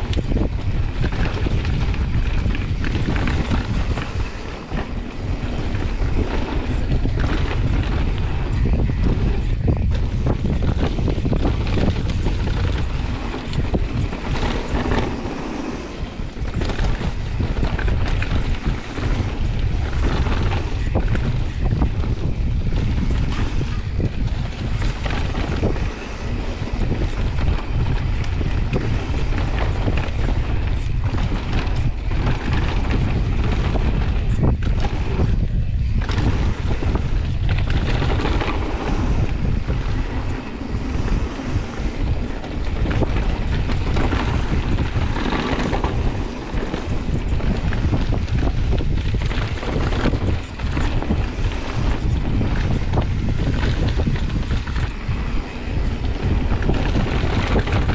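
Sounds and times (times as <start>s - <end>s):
bike knocking and rattling: 0.0s - 57.9s
bike tyres crunching over stones: 0.0s - 57.9s
wind noise on microphone: 0.0s - 57.9s.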